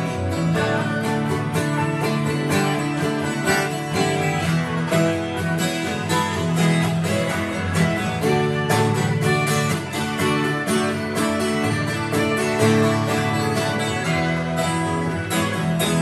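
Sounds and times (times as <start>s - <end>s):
acoustic guitar playing: 0.0s - 16.0s
band music from tv: 0.0s - 16.0s.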